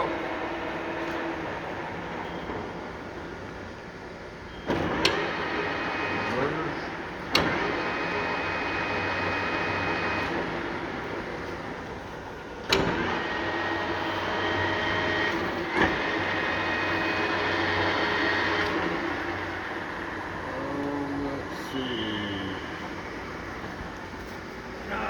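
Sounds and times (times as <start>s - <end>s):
lathe running with gear whine: 0.0s - 25.0s.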